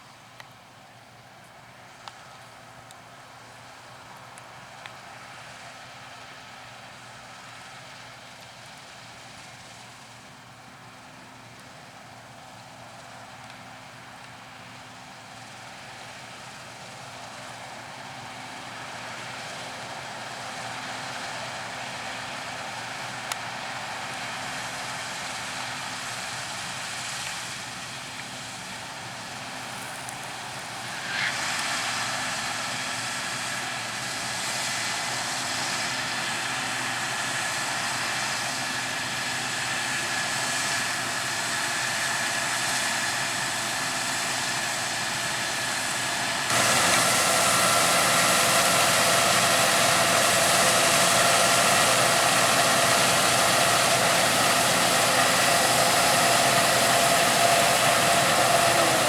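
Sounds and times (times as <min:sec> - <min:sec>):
harvest machinery running with whine: 0:01.6 - 0:59.0.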